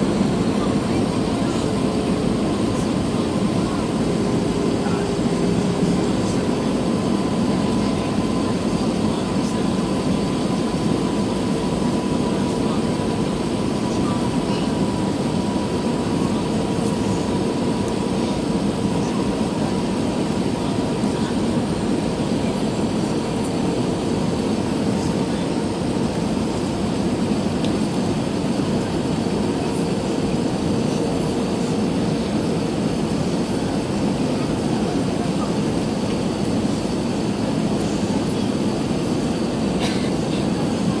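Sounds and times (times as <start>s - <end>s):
airliner cabin engine roar: 0.0s - 41.0s.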